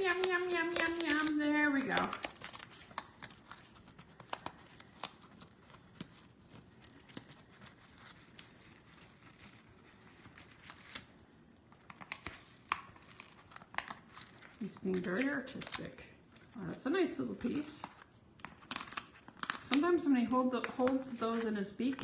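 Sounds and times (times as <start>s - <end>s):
parrot tearing cardboard: 0.0s - 16.6s, 17.2s - 19.8s.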